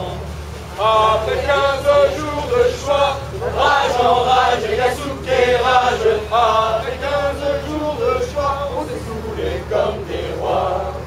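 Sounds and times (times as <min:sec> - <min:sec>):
men singing in unison: 0:00.0 - 0:11.0.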